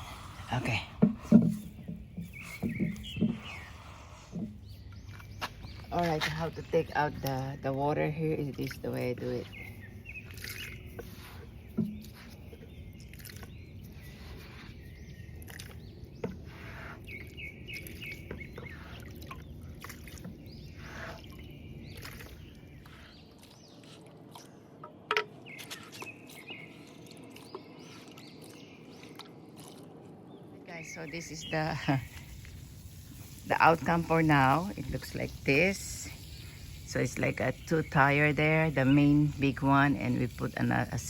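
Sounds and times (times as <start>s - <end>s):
low outdoor background noise: 0.0s - 41.0s
small birds chirping: 0.0s - 41.0s.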